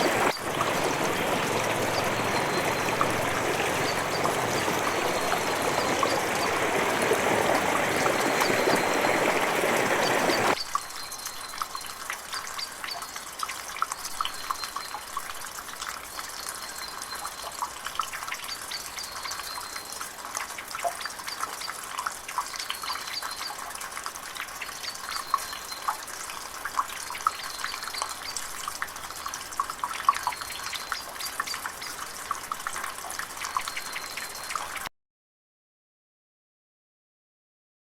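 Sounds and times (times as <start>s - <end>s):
water dripping: 0.0s - 34.9s.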